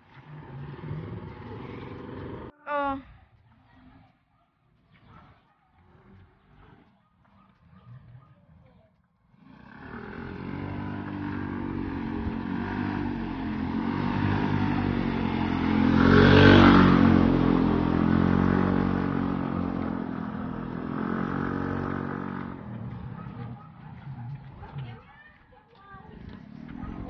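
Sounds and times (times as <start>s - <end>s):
motor scooter engine passing: 0.0s - 2.6s, 5.4s - 27.0s.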